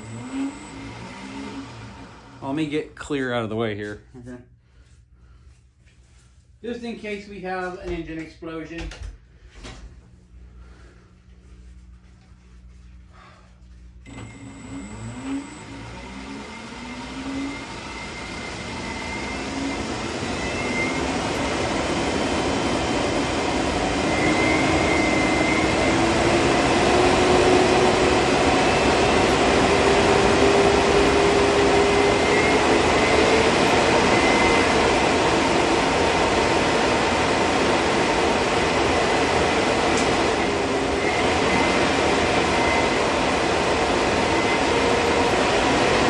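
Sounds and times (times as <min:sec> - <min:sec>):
electric fan whine: 0:00.0 - 0:46.0.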